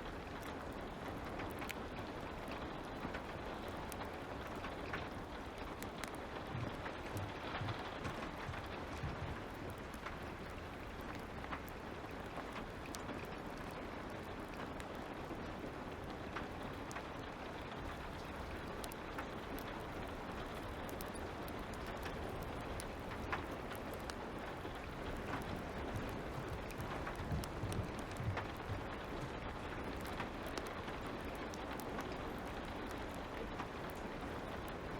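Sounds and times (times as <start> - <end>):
fire crackling: 0.0 - 34.9
steady light rain: 0.0 - 34.9.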